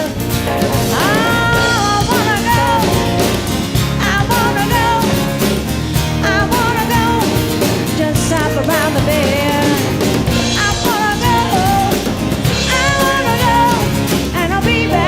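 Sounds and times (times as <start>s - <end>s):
country-rock band playing: 0.0s - 15.0s
drums and bass beat: 0.0s - 15.0s
high lead guitar line bending: 0.0s - 15.0s.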